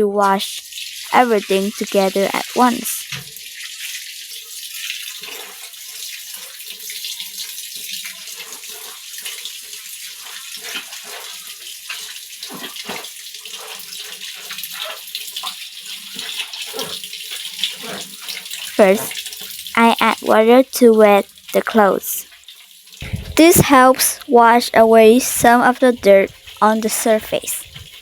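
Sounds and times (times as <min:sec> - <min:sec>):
tap water running into basin: 0:00.2 - 0:28.0
water splashing: 0:00.3 - 0:03.8, 0:04.9 - 0:28.0.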